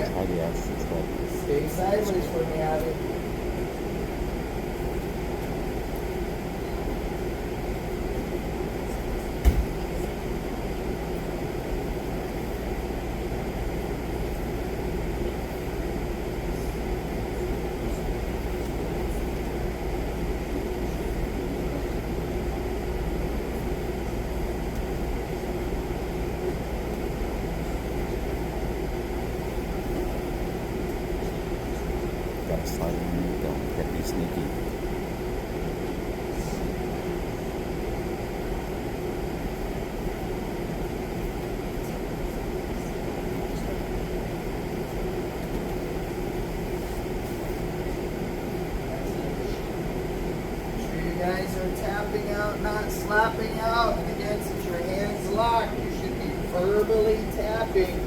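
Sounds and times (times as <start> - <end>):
ventilation rumble and hum: 0.0 - 58.0.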